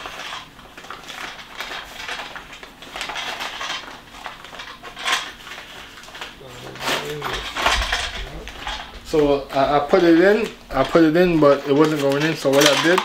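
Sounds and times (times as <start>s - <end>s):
plastic parts clicking and rattling: 0.0s - 13.0s.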